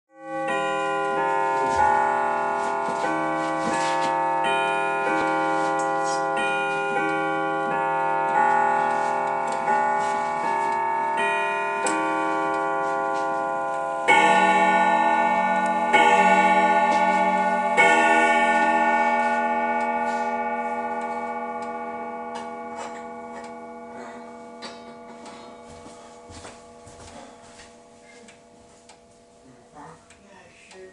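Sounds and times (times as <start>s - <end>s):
grandfather clock chime melody: 0.1s - 30.9s
clock hour strikes: 0.2s - 30.9s
clock pendulum ticking: 0.2s - 30.9s.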